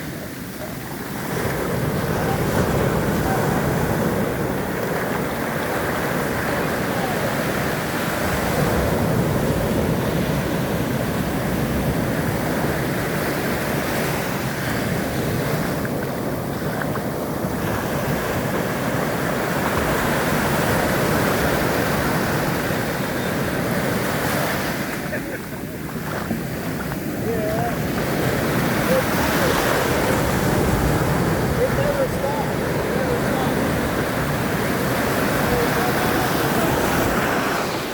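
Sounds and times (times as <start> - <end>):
ocean waves and surf: 0.0 - 37.9.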